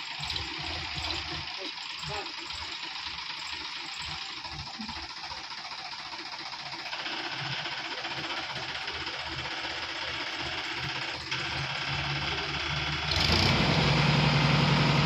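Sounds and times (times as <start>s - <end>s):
tractor diesel engine knocking: 0.0s - 15.0s.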